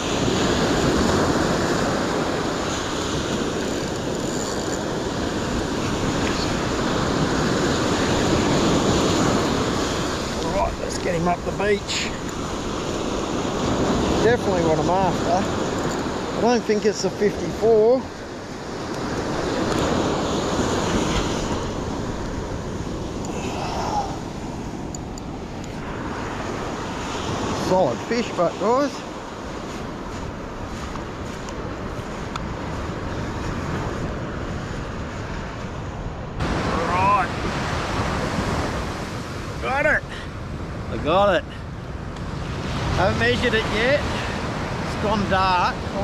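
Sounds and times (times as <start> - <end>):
wind buffeting the microphone: 0.0 - 39.7
surf breaking on a beach: 0.0 - 46.0.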